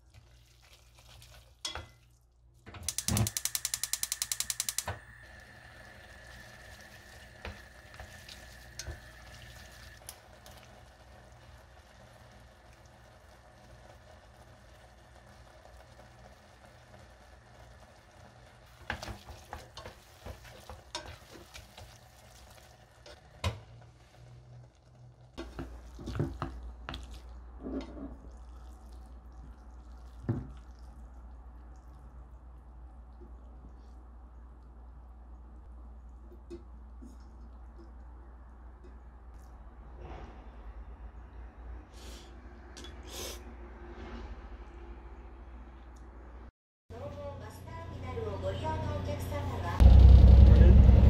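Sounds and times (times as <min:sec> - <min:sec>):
low steady sizzle: 0:00.0 - 0:42.0.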